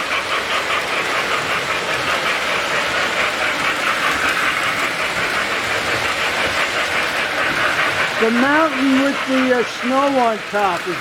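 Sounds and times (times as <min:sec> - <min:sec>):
model trains rolling clatter: 0:00.0 - 0:11.0.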